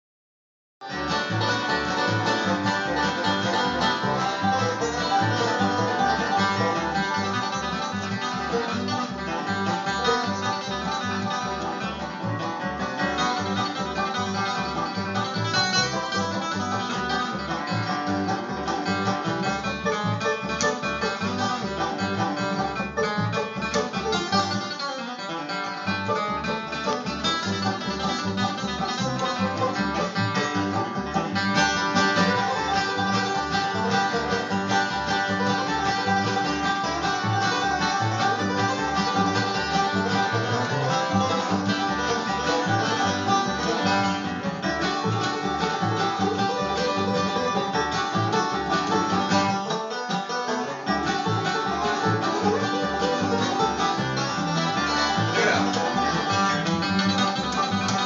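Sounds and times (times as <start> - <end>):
banjo picking: 0.8 - 58.0
guitar picking: 0.8 - 58.0
bass beat: 1.1 - 24.8, 25.9 - 49.6, 51.1 - 58.0.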